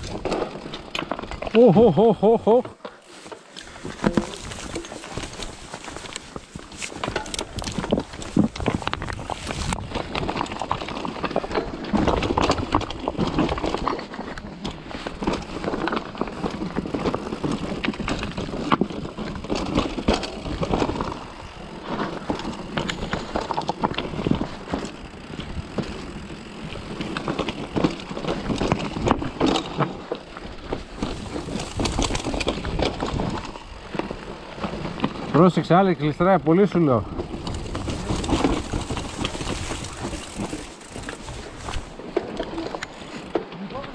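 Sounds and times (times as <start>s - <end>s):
bike chain and frame rattling: 0.0s - 43.9s
bike tyres on rock: 0.0s - 43.9s.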